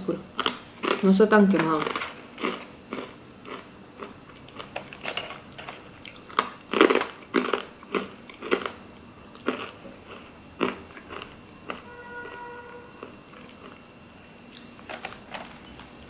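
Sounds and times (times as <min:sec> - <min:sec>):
chewing crunchy fry: 0:00.3 - 0:16.0.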